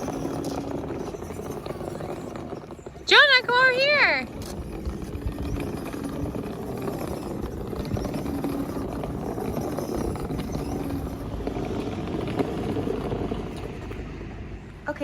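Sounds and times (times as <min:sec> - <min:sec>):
small electric motors humming: 0:00.0 - 0:14.1
wheels rumbling over ground: 0:00.0 - 0:15.0.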